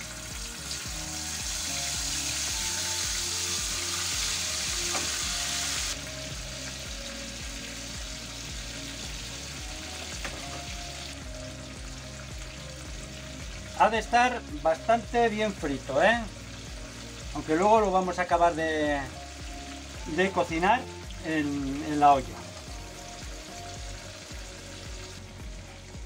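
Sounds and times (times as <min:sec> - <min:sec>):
meat sizzling in frying pan: 0:00.0 - 0:25.9.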